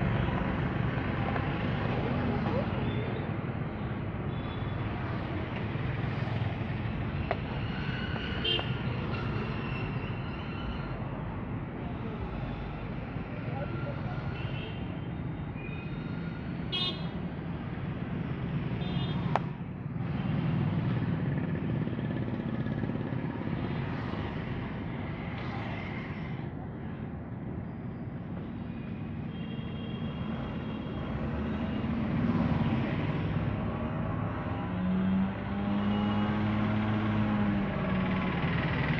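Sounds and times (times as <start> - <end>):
street traffic rumble: 0.0 - 38.9.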